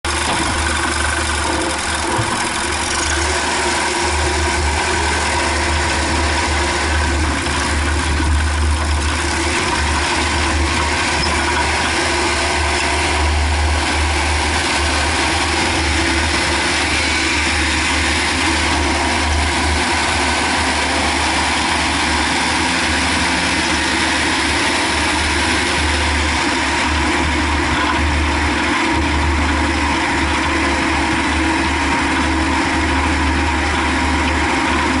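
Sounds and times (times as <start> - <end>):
car engine and road noise: 0.0 - 35.0
knocking while coasting: 0.1 - 35.0.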